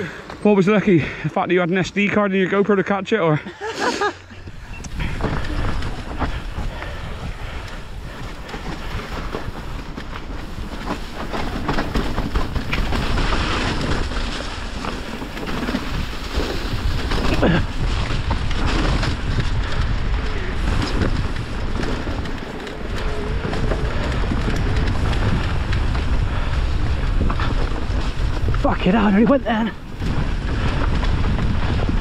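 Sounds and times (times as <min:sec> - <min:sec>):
wind rushing over microphone: 0:04.4 - 0:32.0
bike rattling and knocking: 0:04.5 - 0:32.0.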